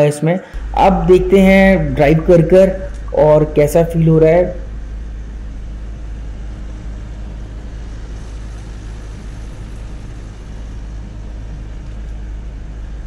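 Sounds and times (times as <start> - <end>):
diesel truck engine running: 0.5 - 13.0.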